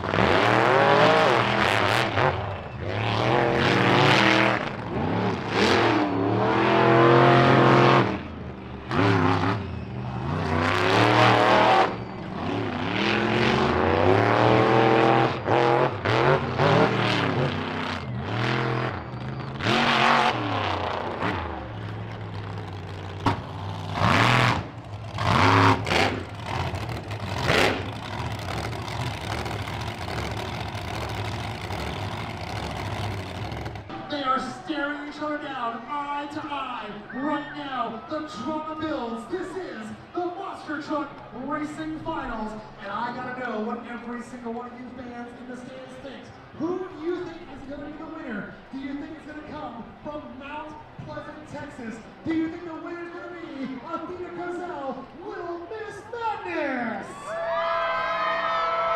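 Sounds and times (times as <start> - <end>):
monster truck engines revving: 0.0 - 58.9.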